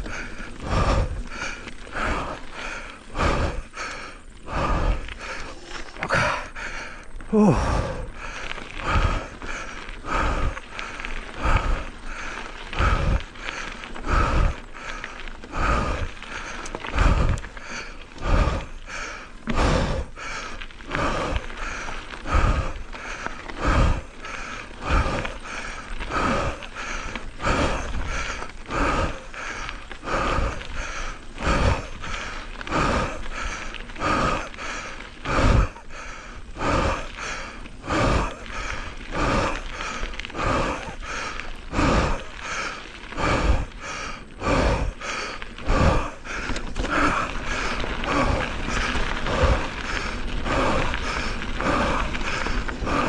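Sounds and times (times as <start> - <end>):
bike rattling on trail: 0.0 - 53.0
person breathing hard: 0.0 - 53.0.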